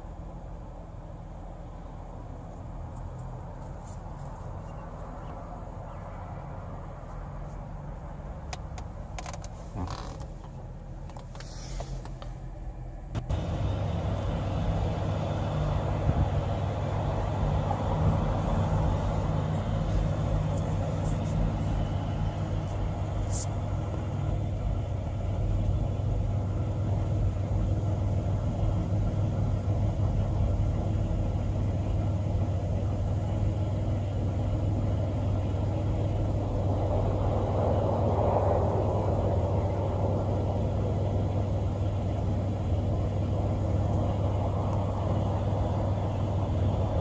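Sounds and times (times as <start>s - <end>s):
vehicle engine running: 0.0s - 47.0s.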